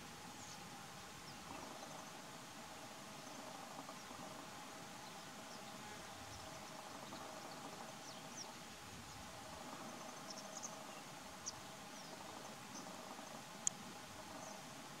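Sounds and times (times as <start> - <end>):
distant birds chirping: 0.0 - 15.0.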